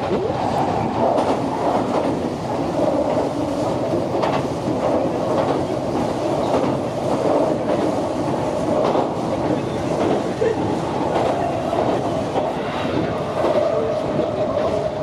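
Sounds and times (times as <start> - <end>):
rail clacks: 0.0 - 15.0
train wheels rumbling on rails: 0.0 - 15.0.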